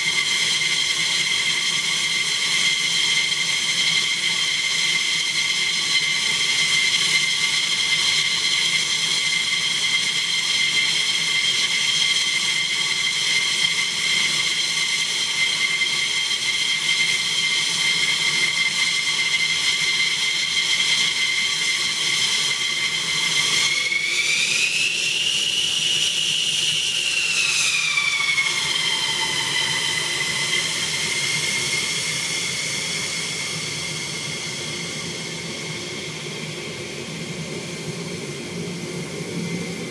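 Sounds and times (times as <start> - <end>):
jet engine turbine whine: 0.0 - 39.9.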